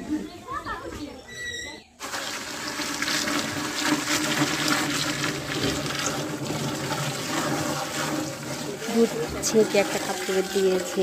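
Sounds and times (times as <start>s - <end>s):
milk pouring into pot: 2.0s - 11.0s.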